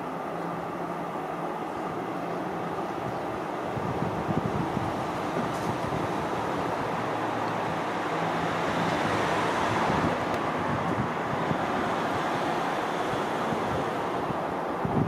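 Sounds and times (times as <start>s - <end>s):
distant trains rumbling on track: 0.0s - 15.0s
wind: 0.0s - 15.0s.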